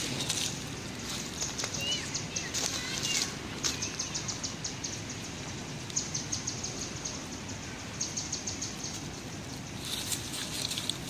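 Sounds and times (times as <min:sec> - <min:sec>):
insects chirping: 0:00.0 - 0:11.0
low outdoor hum: 0:00.0 - 0:11.0.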